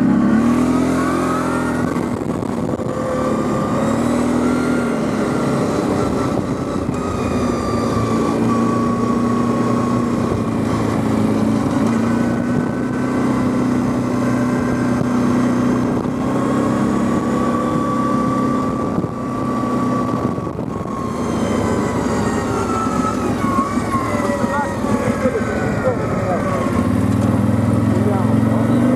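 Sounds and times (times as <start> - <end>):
quad bike engine running: 0.0 - 28.9.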